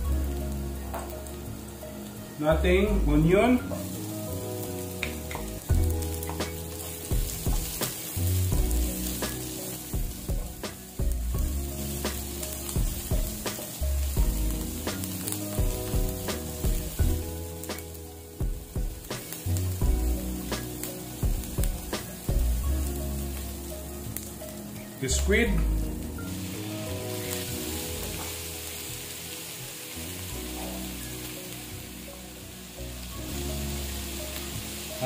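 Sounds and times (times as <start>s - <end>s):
onion and garlic sizzling in oil: 0.0s - 35.0s.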